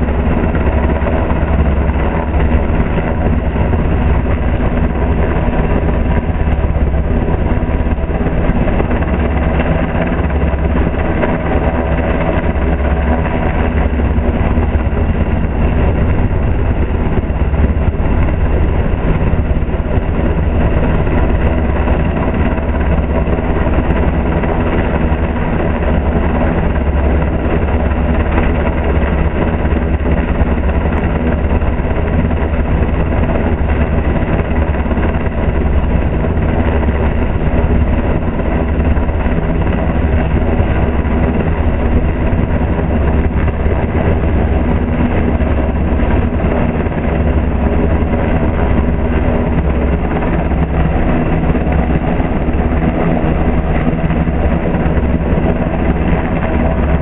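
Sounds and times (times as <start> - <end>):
helicopter hovering overhead: 0.0 - 57.0.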